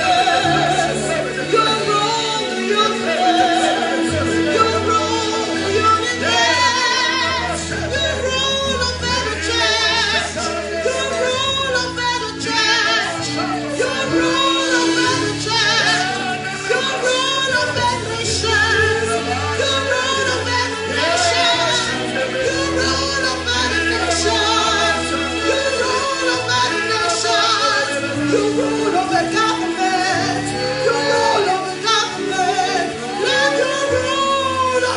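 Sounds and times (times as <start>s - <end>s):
person singing with vibrato: 0.0s - 34.9s
sustained instrumental chords: 0.0s - 34.9s.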